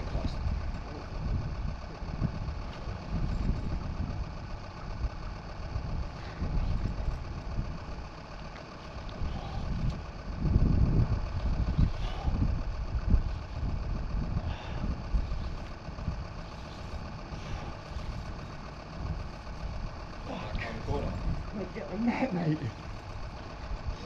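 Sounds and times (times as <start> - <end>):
low uneven rumble: 0.0 - 24.0.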